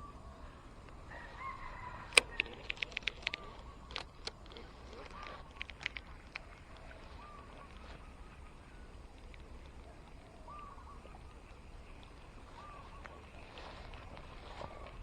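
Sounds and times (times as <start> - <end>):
distant bird calling: 0.0 - 15.0
faint clicks: 2.0 - 15.0.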